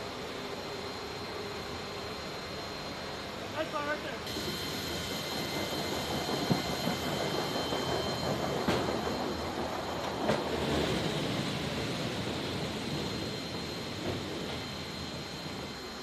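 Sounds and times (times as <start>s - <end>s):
steady high whine: 0.0s - 16.0s.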